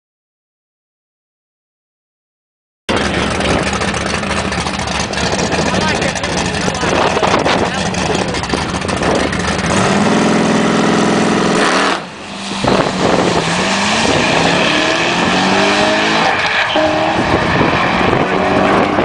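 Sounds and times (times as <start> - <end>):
car engine revving: 2.9 - 19.0.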